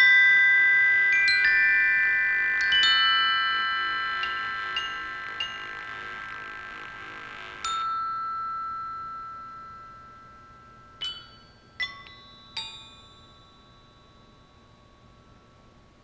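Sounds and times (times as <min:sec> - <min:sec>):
glockenspiel chord ringing: 0:00.0 - 0:05.8, 0:07.6 - 0:15.4
glockenspiel single notes: 0:00.0 - 0:06.0, 0:07.6 - 0:15.3.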